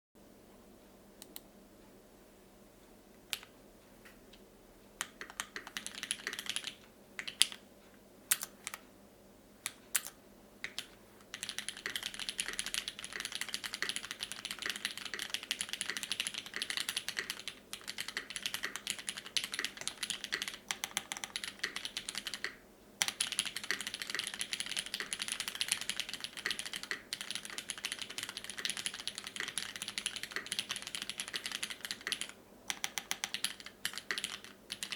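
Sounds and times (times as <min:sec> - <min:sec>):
mechanical keyboard typing: 0:05.0 - 0:07.6, 0:08.3 - 0:08.8, 0:09.7 - 0:34.9.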